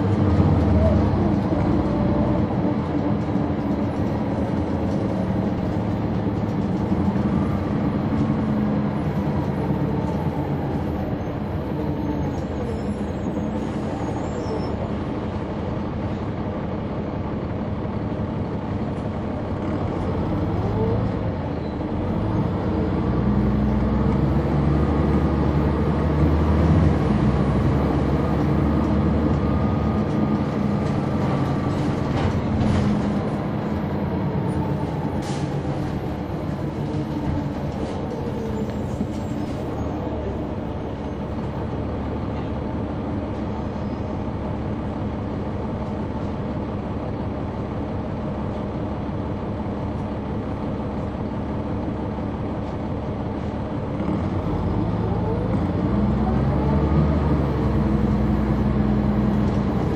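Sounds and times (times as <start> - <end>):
bus diesel engine driving: 0.0 - 59.9.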